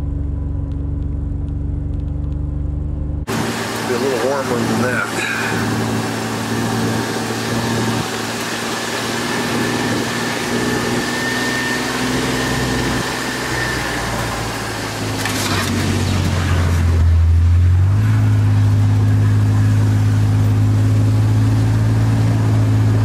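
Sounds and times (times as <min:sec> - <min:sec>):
vehicle engine running while driving: 0:00.0 - 0:23.0.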